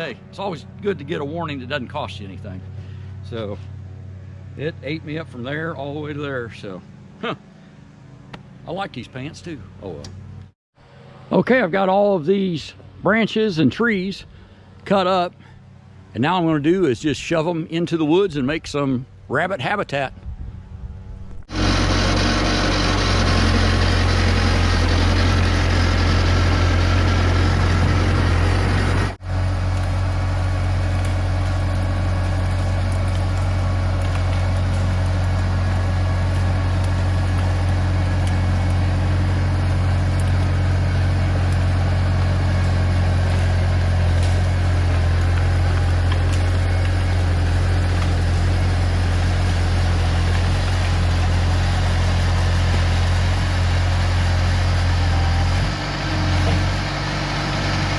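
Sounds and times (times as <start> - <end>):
skid-steer diesel engine running: 0.0 - 17.4, 21.4 - 57.9.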